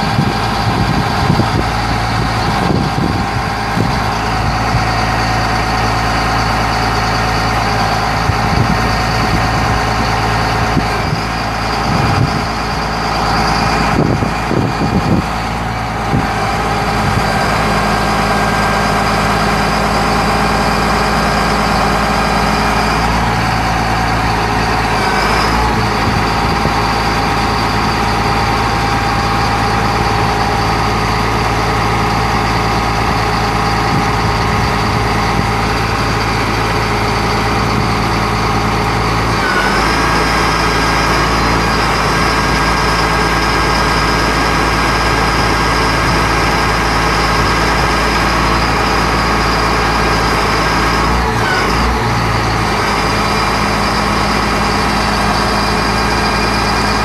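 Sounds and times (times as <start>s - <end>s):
diesel truck engine running: 0.0s - 57.0s
hydraulic whine: 0.0s - 57.0s.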